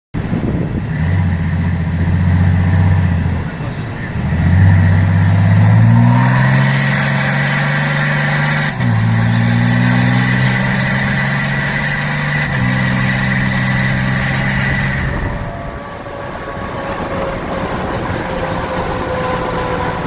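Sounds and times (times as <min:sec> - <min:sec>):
vehicle engine accelerating: 0:00.2 - 0:20.0.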